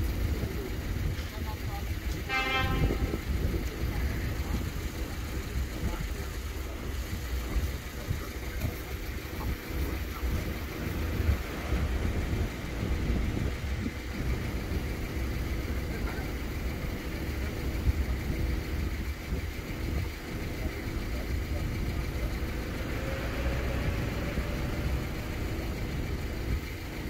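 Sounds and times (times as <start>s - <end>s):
low rumble of vehicles: 0.0s - 27.0s.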